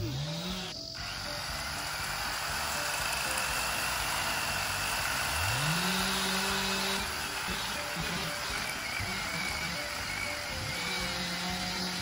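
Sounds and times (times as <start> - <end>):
chainsaw cutting into log: 0.0 - 12.0.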